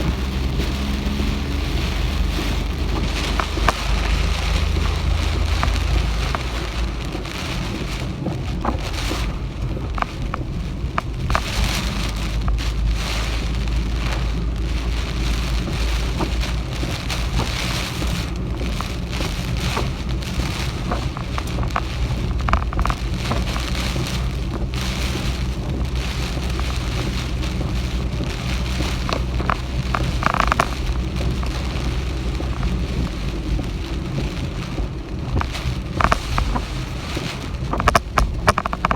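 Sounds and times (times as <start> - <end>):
heavy rain pouring: 0.0 - 38.9
low rumble: 0.0 - 38.9.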